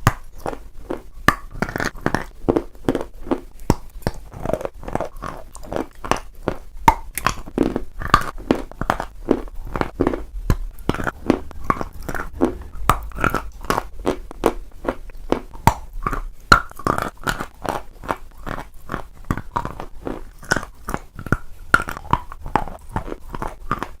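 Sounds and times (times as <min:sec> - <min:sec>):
crunchy chewing: 0:00.0 - 0:24.0
wet mouth sounds: 0:00.0 - 0:24.0.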